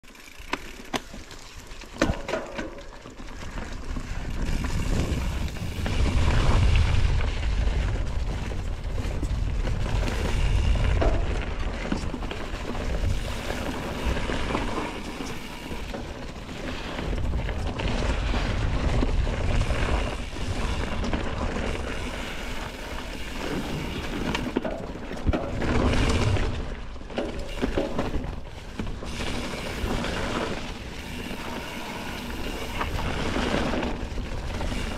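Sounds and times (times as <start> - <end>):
bike chain clicking and rattling: 0.0 - 34.9
bike tyres rolling on dirt: 0.0 - 34.9
wind rumble on microphone: 3.7 - 34.9.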